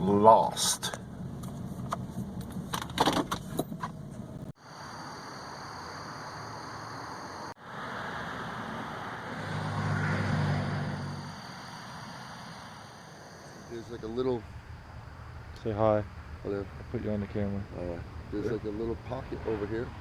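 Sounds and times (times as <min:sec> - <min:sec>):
vehicle road and engine noise: 0:00.0 - 0:20.0.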